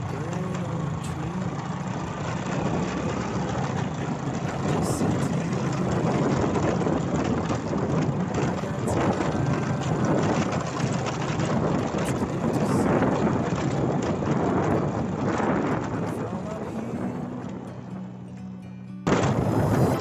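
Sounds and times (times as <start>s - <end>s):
scooter engine running: 0.0s - 20.0s
wind and road noise: 0.0s - 20.0s.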